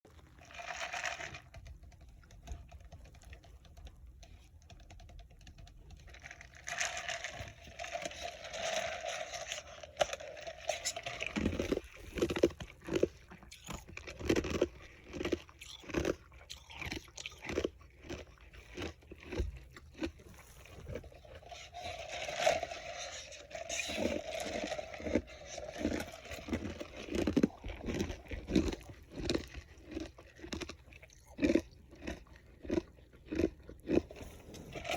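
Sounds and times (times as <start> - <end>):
person crunching ice: 6.7 - 34.9.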